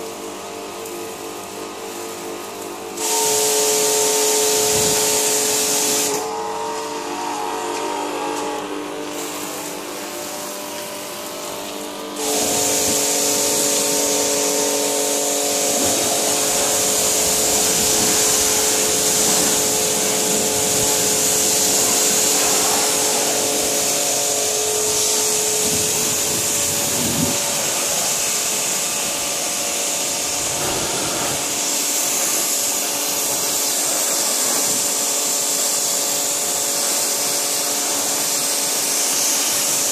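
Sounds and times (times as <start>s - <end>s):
pressure washer pump whining: 0.0s - 39.9s
water jet hissing: 1.2s - 39.9s.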